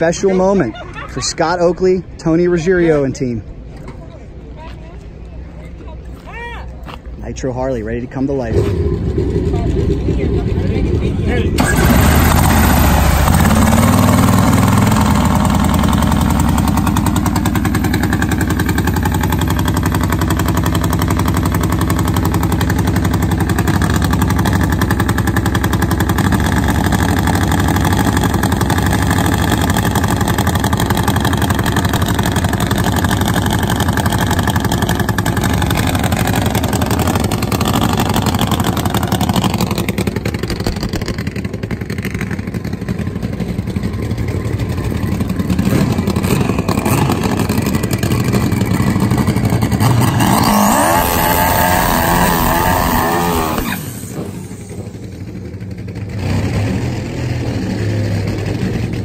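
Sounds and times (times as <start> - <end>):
motorcycle engine idling loudly: 8.6 - 59.0.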